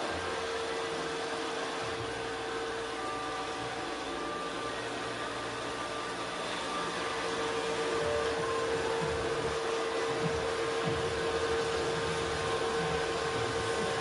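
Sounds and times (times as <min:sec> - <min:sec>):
appliance motor running: 0:00.0 - 0:14.0.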